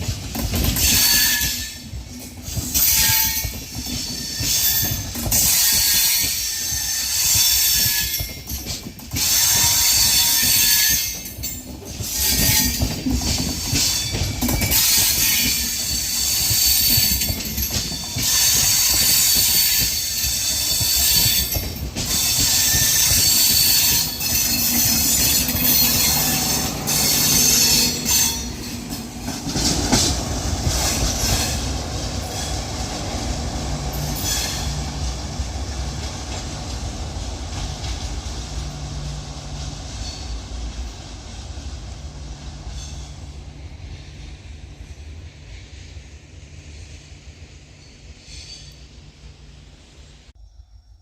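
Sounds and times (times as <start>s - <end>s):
train running on rails: 0.0s - 51.0s.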